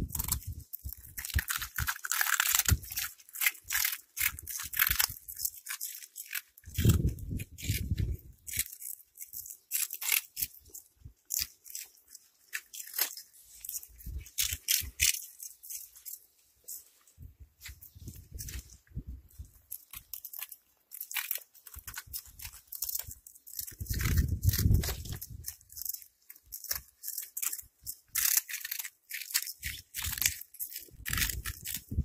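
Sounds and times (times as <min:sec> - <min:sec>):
cats crunching snacks: 0:00.0 - 0:17.0, 0:17.7 - 0:32.0.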